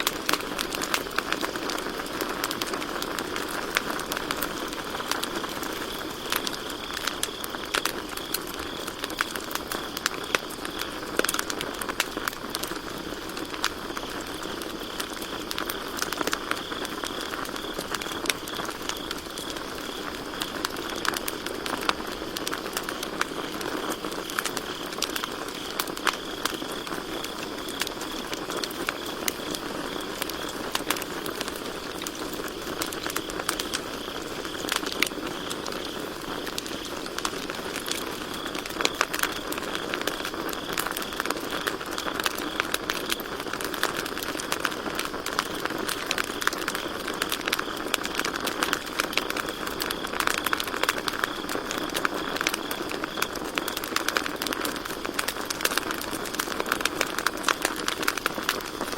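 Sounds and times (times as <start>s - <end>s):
campfire crackling and popping: 0.0s - 58.9s
crickets chirping: 0.0s - 58.9s.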